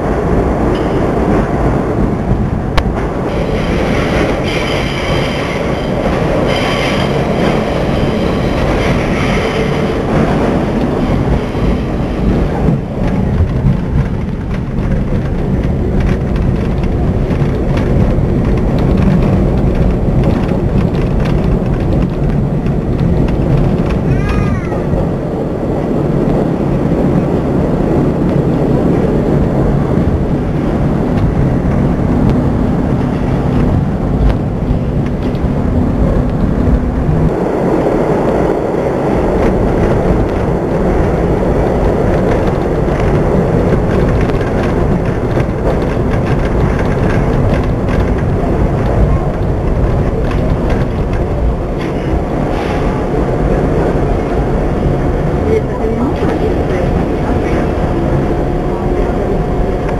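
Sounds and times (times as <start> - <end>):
subway train rumbling on rails: 0.0 - 59.9.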